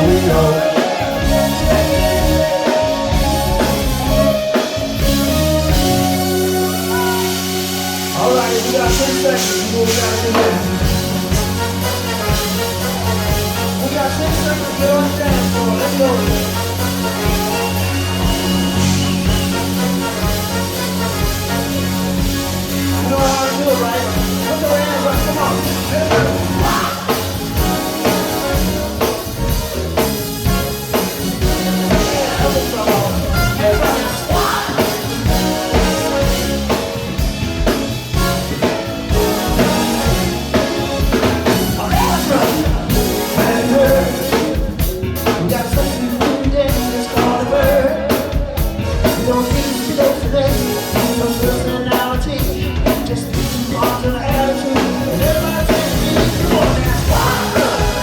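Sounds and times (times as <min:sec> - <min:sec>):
person singing: 0:00.0 - 0:20.0, 0:21.6 - 0:29.8, 0:31.4 - 0:37.2, 0:38.4 - 0:58.0
drum kit beat: 0:00.0 - 0:58.0
live funk band playing: 0:00.0 - 0:58.0.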